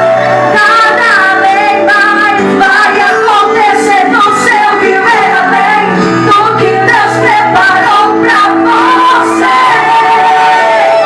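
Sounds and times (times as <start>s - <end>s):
amplified instrumental accompaniment: 0.0s - 11.0s
woman singing worship song: 0.0s - 11.0s.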